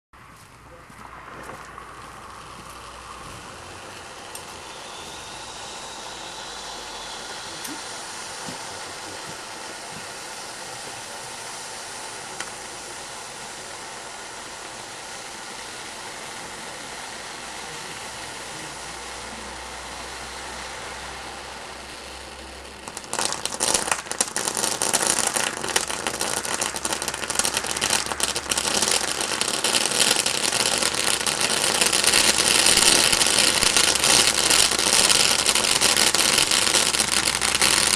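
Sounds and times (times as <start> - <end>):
firework crackling: 0.2 - 37.9
firework fountain hissing sparks: 0.3 - 37.9.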